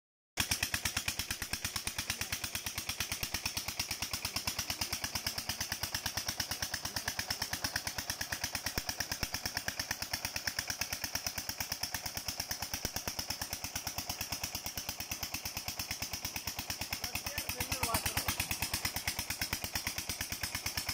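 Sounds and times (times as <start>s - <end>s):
diesel engine chugging: 0.4s - 20.9s.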